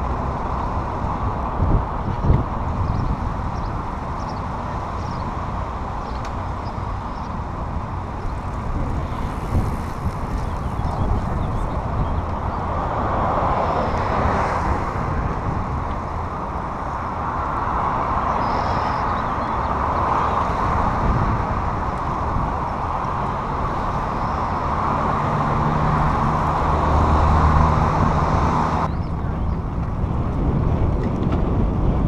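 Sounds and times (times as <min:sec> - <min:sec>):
bicycle riding rushing noise: 0:00.0 - 0:32.0
motor vehicle engine hum: 0:00.0 - 0:32.0
road traffic: 0:00.0 - 0:32.0.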